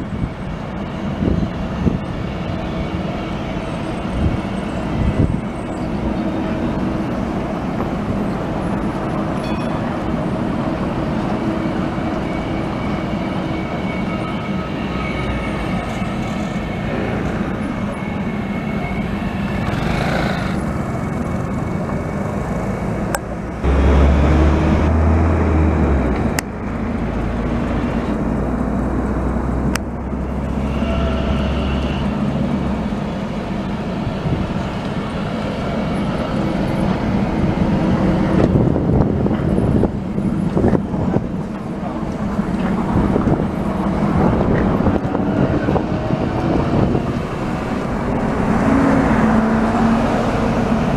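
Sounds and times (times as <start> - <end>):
city traffic noise: 0.0 - 50.9
trams humming past: 0.0 - 50.9.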